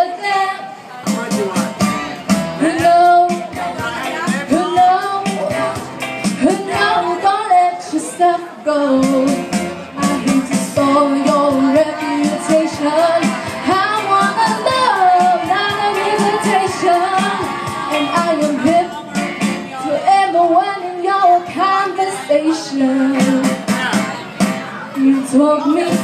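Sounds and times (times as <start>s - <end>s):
woman singing into microphone: 0.0s - 1.0s, 2.6s - 24.1s, 24.9s - 26.0s
backing music with steady beat: 0.0s - 26.0s.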